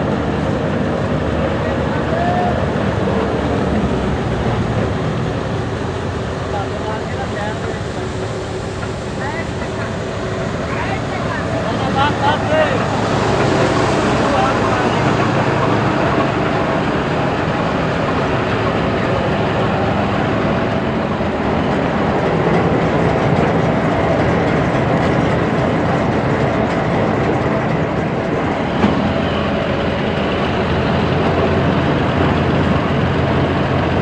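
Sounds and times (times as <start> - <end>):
combine harvester engine and threshing: 0.0 - 34.0.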